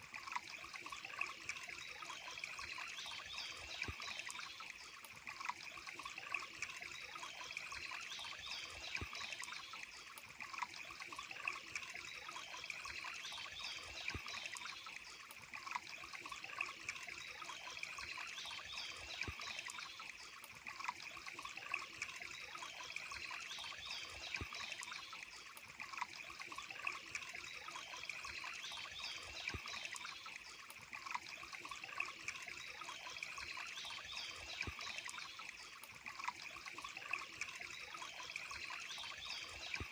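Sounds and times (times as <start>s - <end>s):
stream trickling: 0.0s - 39.9s
water drips and splashes: 0.0s - 39.9s.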